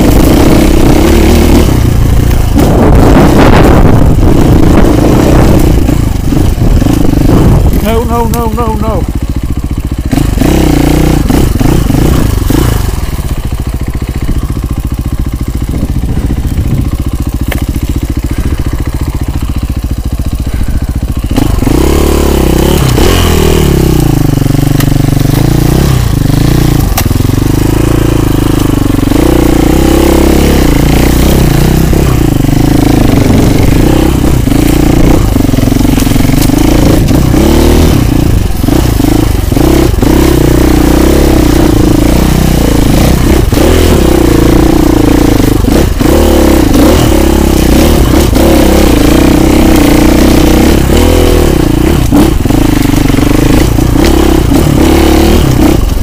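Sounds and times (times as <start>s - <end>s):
motorcycle engine idling and revving: 0.0s - 56.0s.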